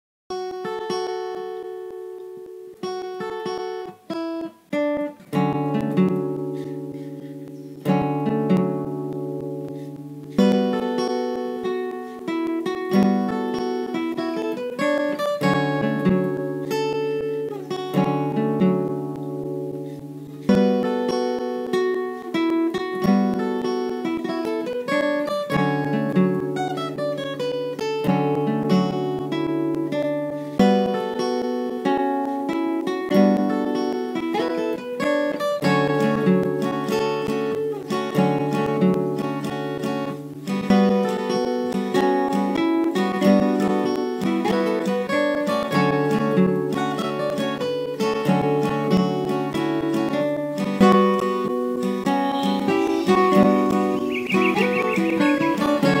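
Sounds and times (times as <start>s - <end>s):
acoustic guitar playing: 0.3s - 56.0s.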